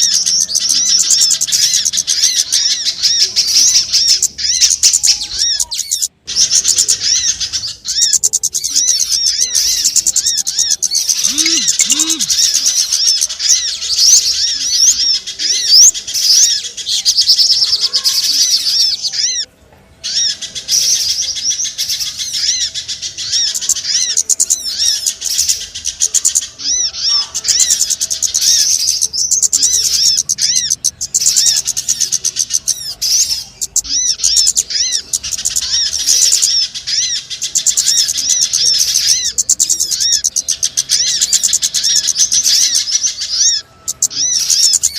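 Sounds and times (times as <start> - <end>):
many small birds chirping: 0.0 - 44.9.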